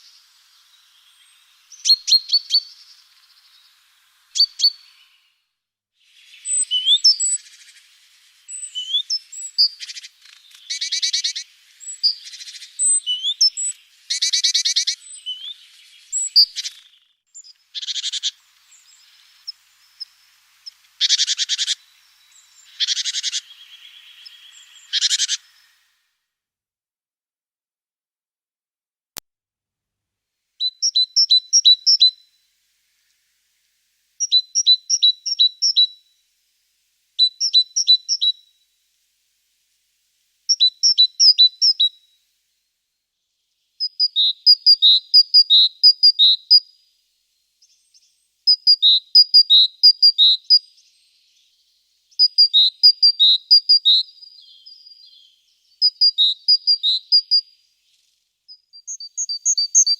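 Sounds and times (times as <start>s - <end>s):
small songbird singing: 0.0s - 26.1s, 30.6s - 36.4s, 37.1s - 38.8s, 39.8s - 42.3s, 43.1s - 59.9s.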